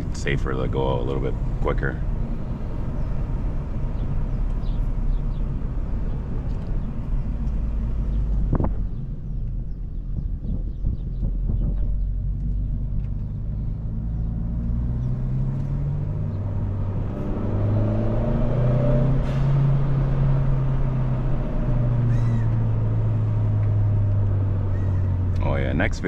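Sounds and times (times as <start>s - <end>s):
car engine running: 0.0s - 18.6s, 19.3s - 26.0s.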